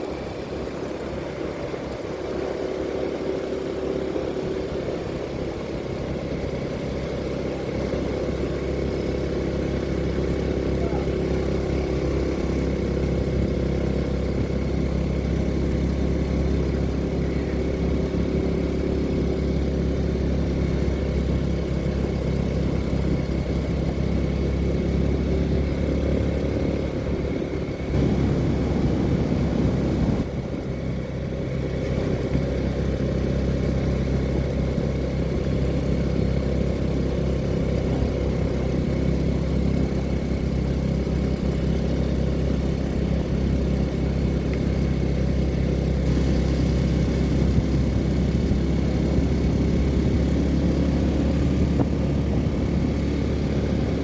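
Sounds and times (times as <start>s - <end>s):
vehicle engine and road drone: 0.0s - 54.0s.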